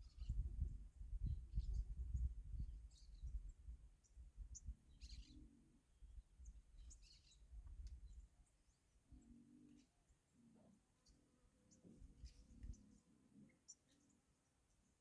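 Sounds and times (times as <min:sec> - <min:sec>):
small birds chirping faintly: 0:00.0 - 0:15.0.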